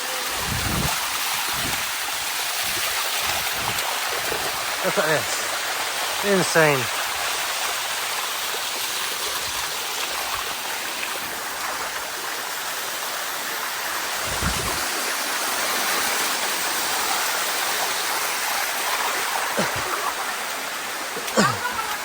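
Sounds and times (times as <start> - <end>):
waterfall running: 0.0 - 22.0.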